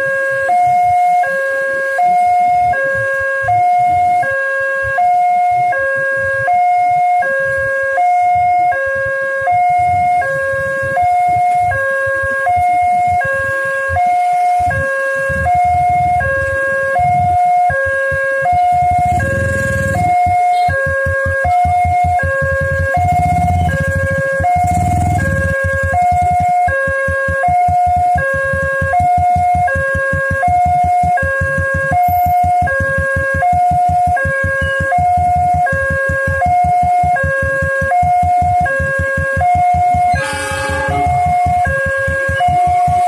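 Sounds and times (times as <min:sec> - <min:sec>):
two-tone crossing alarm: 0:00.0 - 0:43.0.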